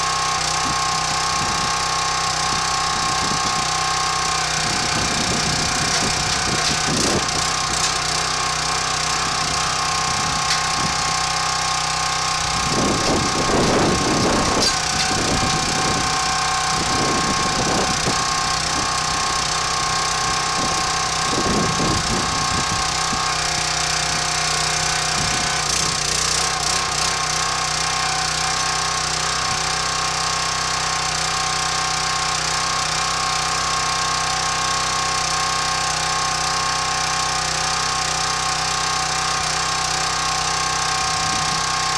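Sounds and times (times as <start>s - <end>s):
log splitter gas engine running: 0.0s - 41.9s.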